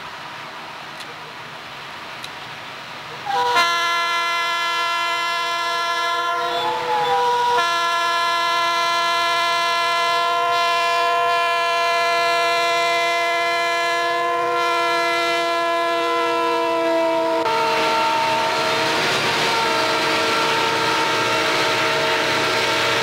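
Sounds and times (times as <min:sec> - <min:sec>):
locomotive air horn blast: 0:03.2 - 0:23.0.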